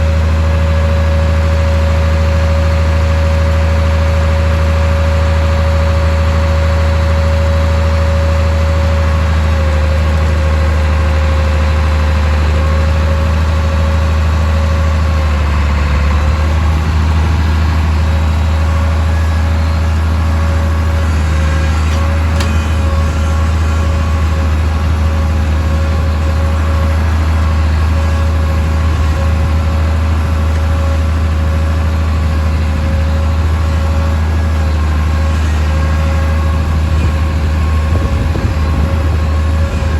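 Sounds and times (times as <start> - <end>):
steady whine: 0.0 - 39.9
tractor engine droning: 0.0 - 39.9.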